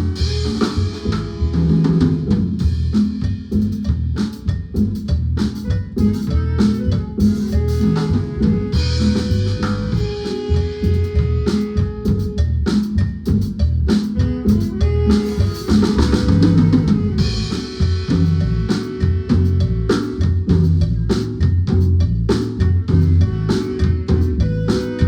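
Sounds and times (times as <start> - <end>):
cymbals: 0.0 - 21.4
drum kit beat: 0.0 - 25.0
low bass notes: 0.0 - 25.0
marimba band playing: 0.0 - 25.0.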